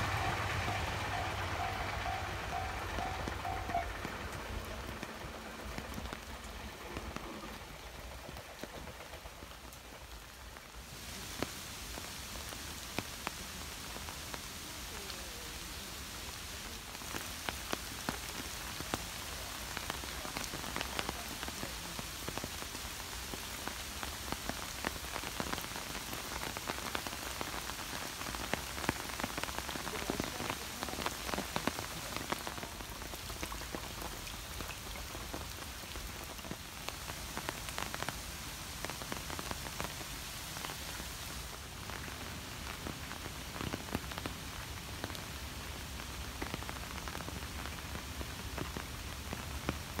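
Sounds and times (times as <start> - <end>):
rain pattering: 0.0 - 50.0.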